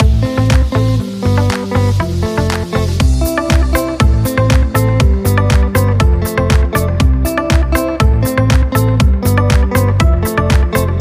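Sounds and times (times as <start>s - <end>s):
upbeat funk music: 0.0s - 11.0s.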